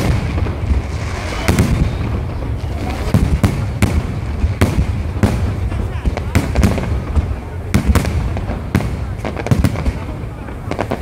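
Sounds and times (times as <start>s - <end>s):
fireworks rumbling detonations: 0.0s - 11.0s
sharp firework cracks: 0.0s - 11.0s.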